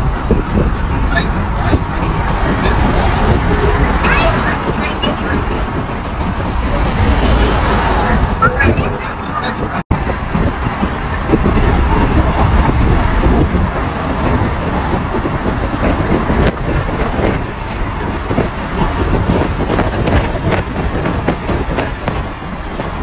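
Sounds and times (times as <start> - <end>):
road and engine noise in car: 0.0 - 23.0.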